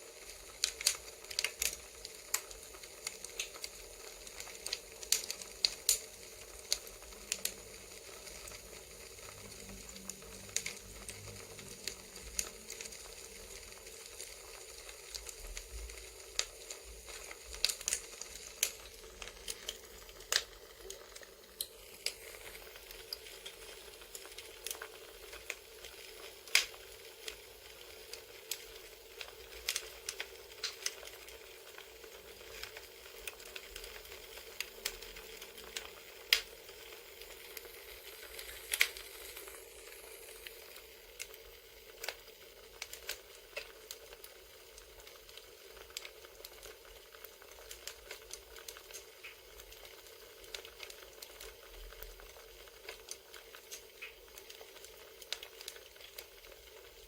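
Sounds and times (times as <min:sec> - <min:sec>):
campfire crackling: 0:00.0 - 0:57.0
fire hissing: 0:00.0 - 0:57.0.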